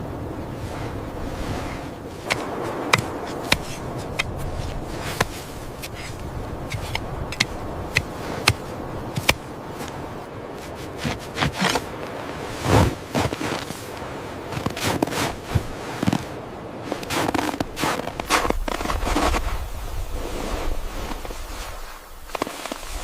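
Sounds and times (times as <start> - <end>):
low wind-like rumble: 0.0 - 23.0.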